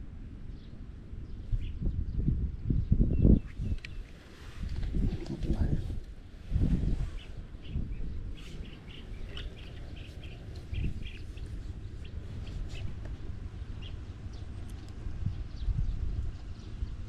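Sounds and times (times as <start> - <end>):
steady low rumble: 0.0 - 17.0
small birds chirping: 0.5 - 17.0.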